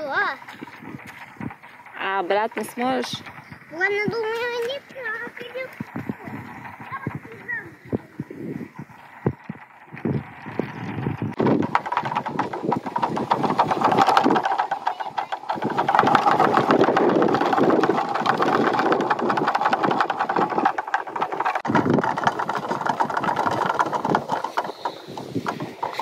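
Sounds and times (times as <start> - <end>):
bottle windmills clattering: 0.0 - 26.0.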